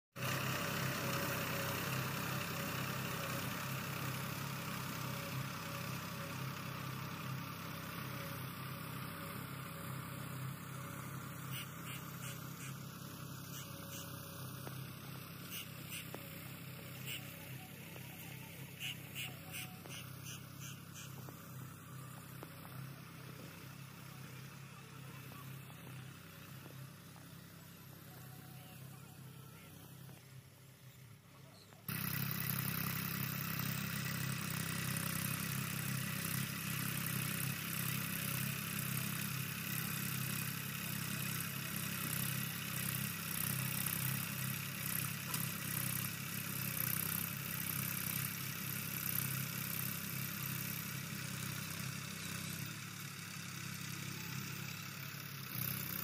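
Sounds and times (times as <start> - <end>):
tractor diesel engine running: 0.2 - 56.0.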